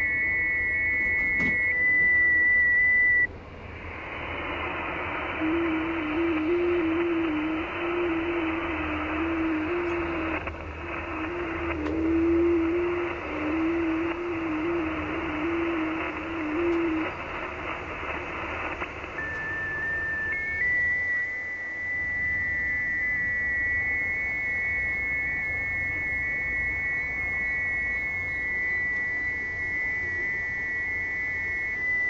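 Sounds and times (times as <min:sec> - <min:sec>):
radio receiver hiss: 0:00.0 - 0:32.0.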